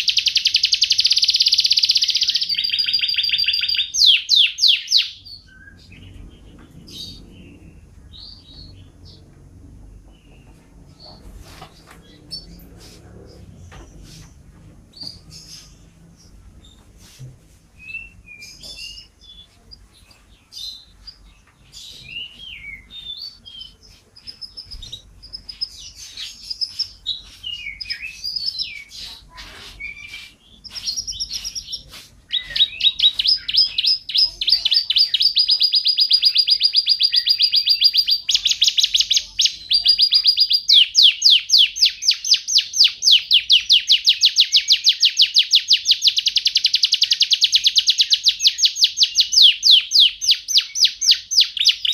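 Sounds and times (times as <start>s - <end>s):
canary singing: 0.0s - 16.8s, 17.8s - 51.9s.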